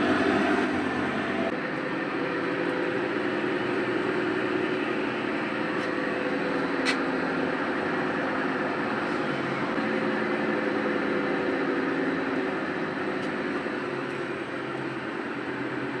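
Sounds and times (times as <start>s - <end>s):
washing machine hum and rumble: 0.0s - 16.0s.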